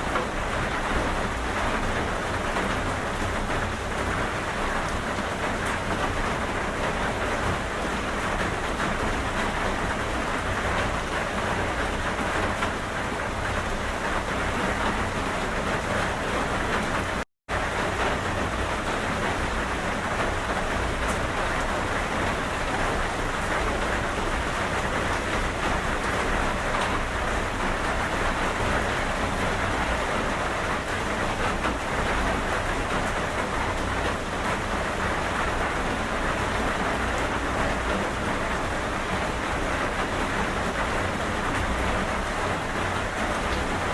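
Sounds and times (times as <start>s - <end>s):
steady rainfall: 0.0s - 43.9s.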